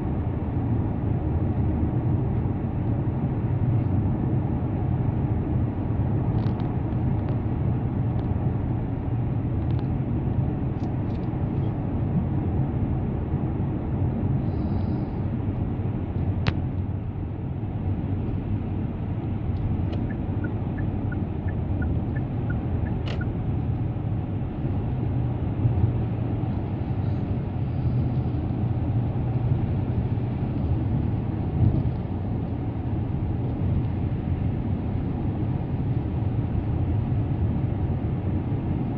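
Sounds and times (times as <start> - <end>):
car engine hum: 0.0 - 38.9
road and tyre noise: 0.0 - 38.9.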